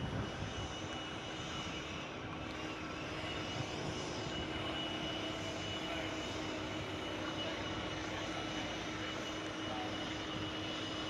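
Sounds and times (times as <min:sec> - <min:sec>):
faint high whine: 0:00.0 - 0:11.0
steady engine drone: 0:00.0 - 0:11.0.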